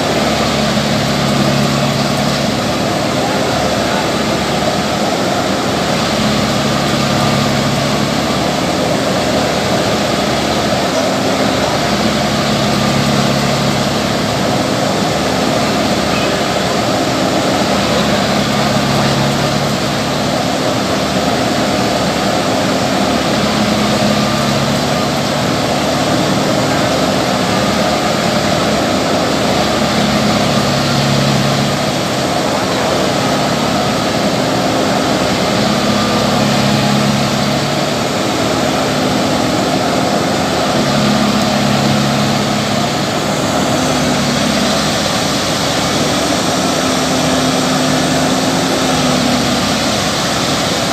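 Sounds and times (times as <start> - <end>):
diesel farm machinery engines: 0.0 - 50.9.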